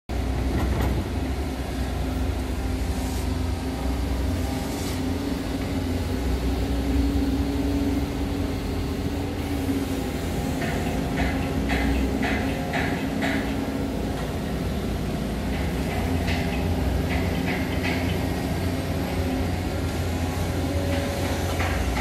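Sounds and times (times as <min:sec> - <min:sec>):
excavator diesel engine rumble: 0:00.1 - 0:22.0.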